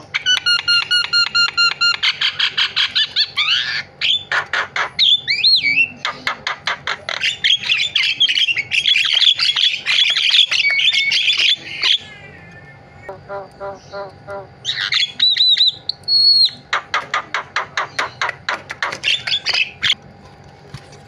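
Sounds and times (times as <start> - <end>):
bird singing varied song: 0.0 - 20.0.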